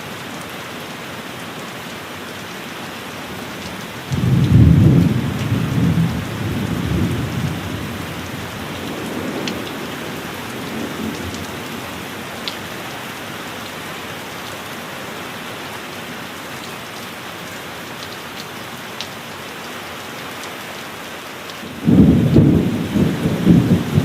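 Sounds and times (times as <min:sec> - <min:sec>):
heavy rain hissing: 0:00.0 - 0:18.0, 0:18.6 - 0:24.0.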